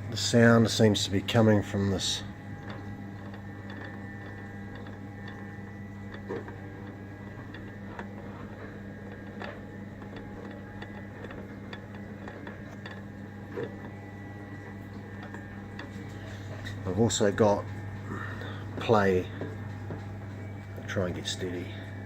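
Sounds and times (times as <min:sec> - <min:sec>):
low hum: 0:01.2 - 0:22.0.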